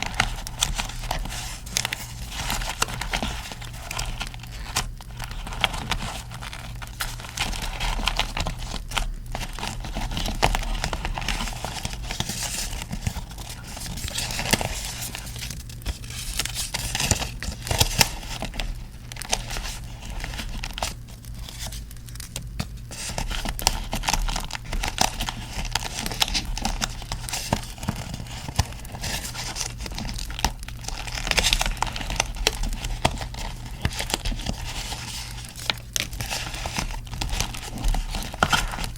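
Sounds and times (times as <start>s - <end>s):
paper crinkling and tearing: 0.0s - 38.9s
steady low hum: 0.0s - 38.9s.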